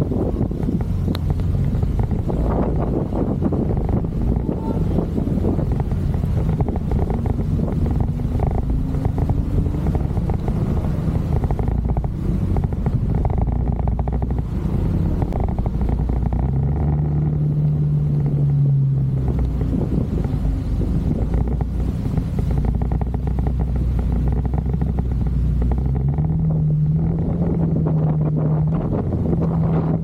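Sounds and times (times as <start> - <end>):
motorcycle engine running: 0.0 - 30.0
wind noise on microphone: 0.0 - 30.0.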